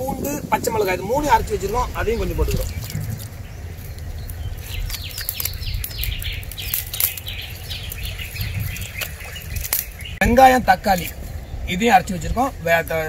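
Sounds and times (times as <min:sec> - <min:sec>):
low rumble: 0:00.0 - 0:13.0
small birds chirping: 0:00.0 - 0:13.0.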